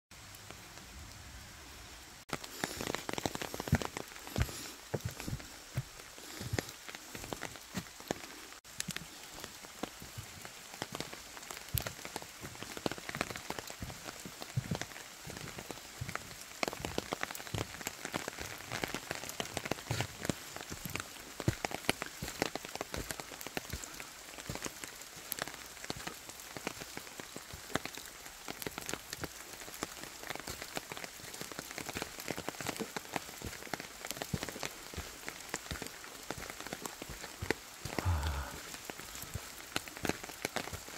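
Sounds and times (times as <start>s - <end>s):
raindrops pattering on leaves: 0.2s - 40.9s
steady rain hiss: 0.2s - 40.9s.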